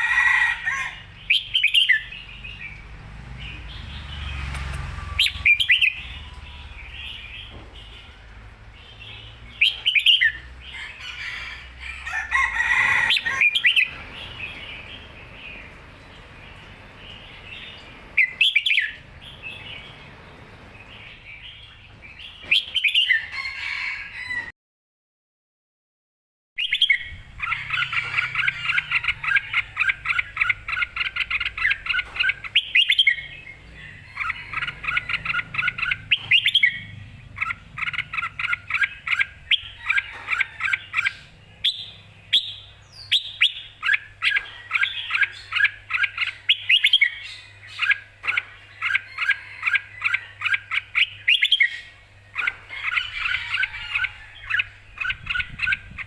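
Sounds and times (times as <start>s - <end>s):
bulbul chirping song: 0.0s - 11.5s, 12.1s - 23.4s, 26.6s - 56.0s.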